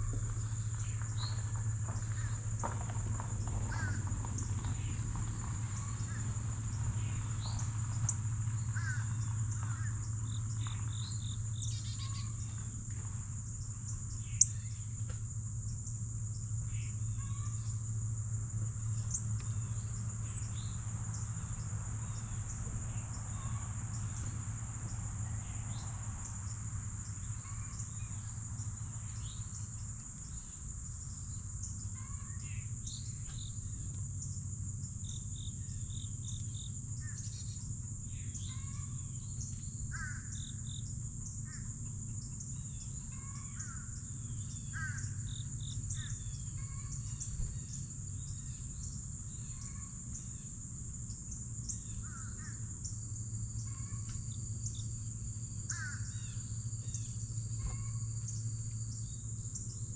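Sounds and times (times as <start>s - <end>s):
high-pitched insect drone: 0.0s - 59.9s
low steady hum: 0.0s - 59.9s.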